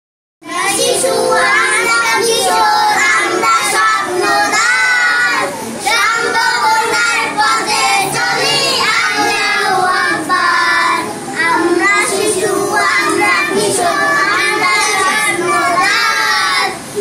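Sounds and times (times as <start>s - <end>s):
children singing in unison: 0.4s - 17.0s.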